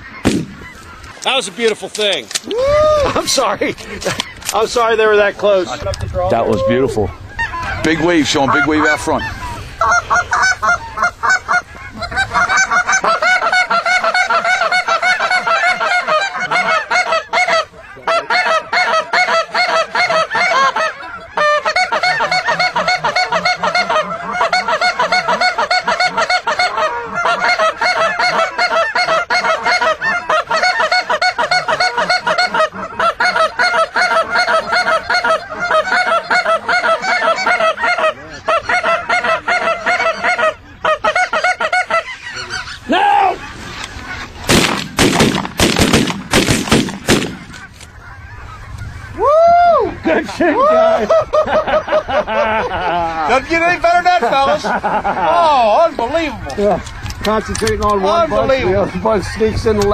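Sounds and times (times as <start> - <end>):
geese honking: 0.0 - 2.2, 3.1 - 59.9.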